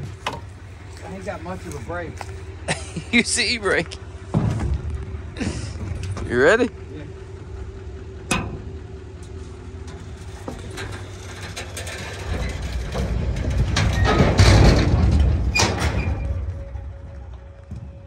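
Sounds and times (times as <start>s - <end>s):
tyres crunching on gravel: 0.0s - 7.6s, 9.2s - 18.0s.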